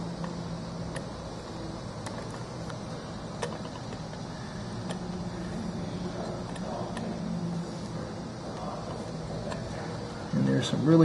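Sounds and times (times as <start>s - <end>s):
low hum and rumble: 0.0s - 11.0s.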